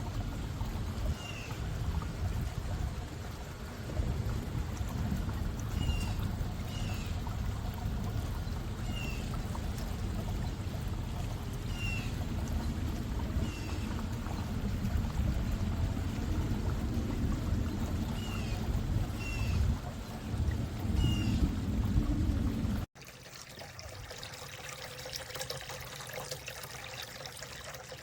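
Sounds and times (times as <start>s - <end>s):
cascading water fountain: 0.0s - 28.0s.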